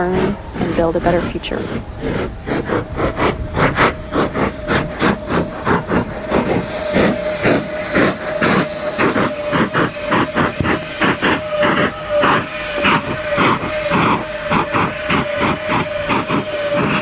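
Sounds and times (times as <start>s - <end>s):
rapid hissing pulse: 0.0s - 17.0s
steady whine: 0.0s - 17.0s.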